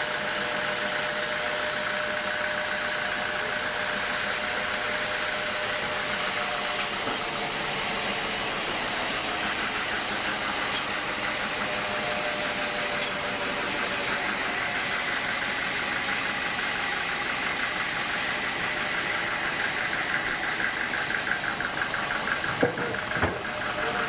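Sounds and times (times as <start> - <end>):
sawmill machine running: 0.0 - 24.0.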